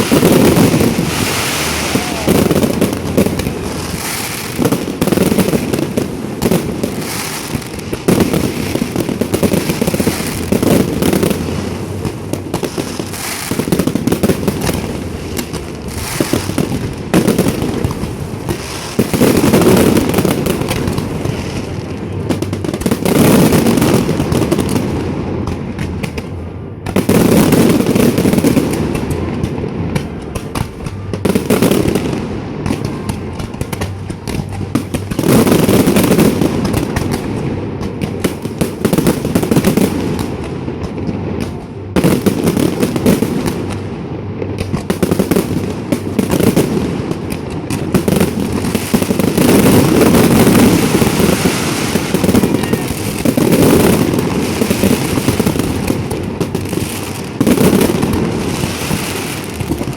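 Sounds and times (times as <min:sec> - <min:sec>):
fireworks crackling and popping: 0:00.0 - 0:59.9.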